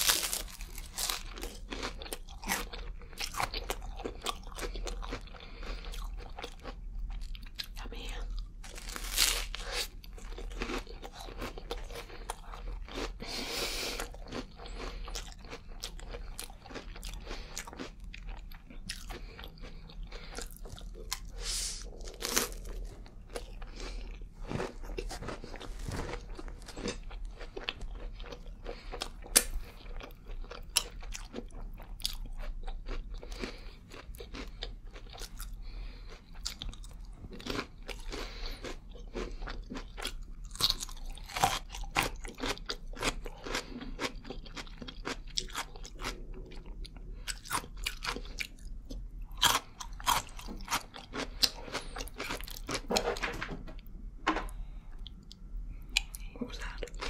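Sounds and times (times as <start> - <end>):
crunching rice cakes: 0.0 - 53.0.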